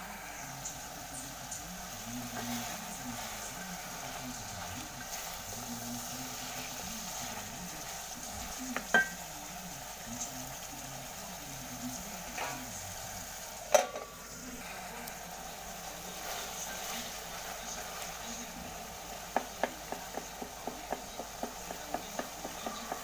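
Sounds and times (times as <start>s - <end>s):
stew sizzling in a pot: 0.0s - 23.0s
spoon stirring: 0.7s - 10.7s, 13.7s - 23.0s.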